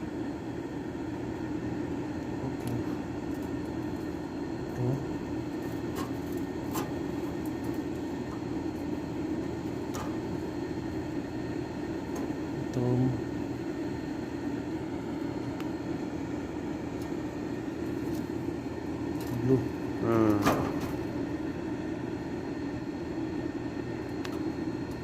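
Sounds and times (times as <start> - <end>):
low mechanical drone: 0.0 - 25.0.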